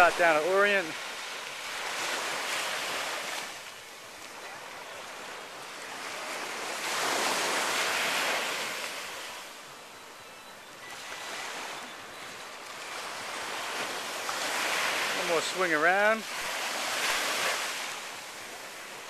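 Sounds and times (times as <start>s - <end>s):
ocean surf washing onto beach: 0.0s - 10.2s, 10.8s - 19.0s.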